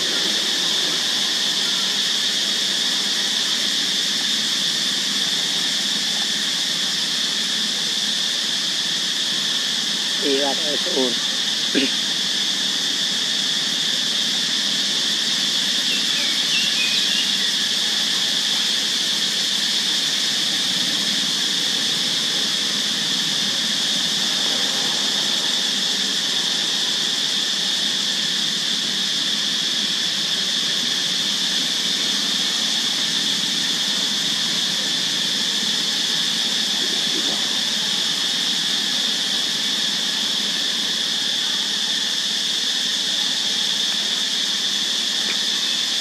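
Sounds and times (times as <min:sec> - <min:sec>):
high-pitched insect drone: 0:00.0 - 0:46.0.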